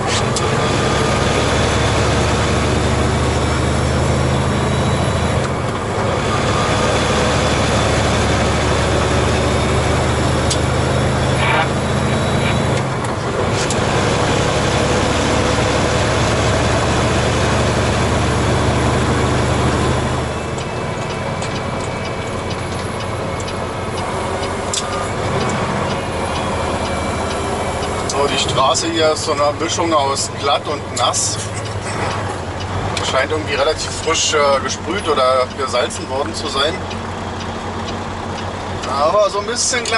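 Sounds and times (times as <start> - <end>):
diesel truck engine pulling: 0.0 - 39.9
tyre and road noise: 0.0 - 39.9.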